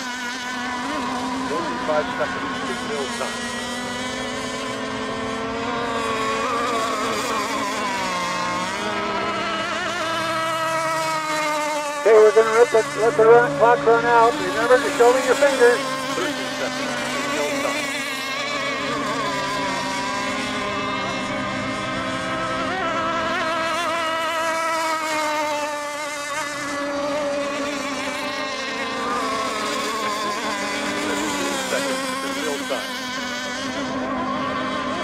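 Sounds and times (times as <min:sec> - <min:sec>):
model boat engines whining: 0:00.0 - 0:35.0.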